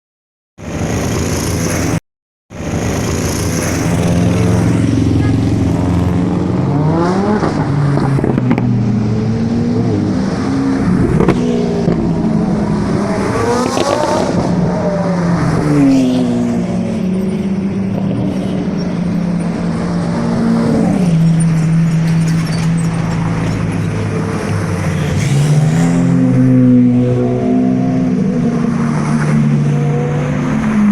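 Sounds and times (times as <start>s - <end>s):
supercar engines revving: 2.6s - 30.9s.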